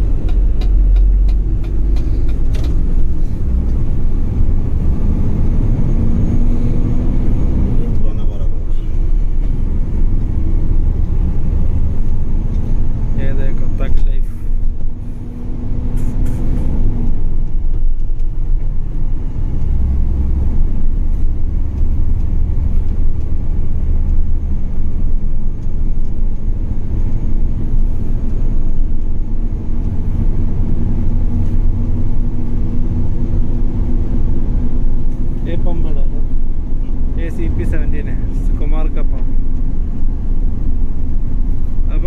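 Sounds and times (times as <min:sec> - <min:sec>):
diesel truck engine rumble: 0:00.0 - 0:42.0
engine drone: 0:00.0 - 0:42.0.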